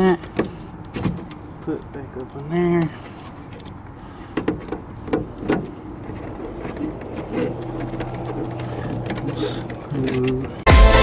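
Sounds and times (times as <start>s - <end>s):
light handling ticks: 0.2s - 10.6s.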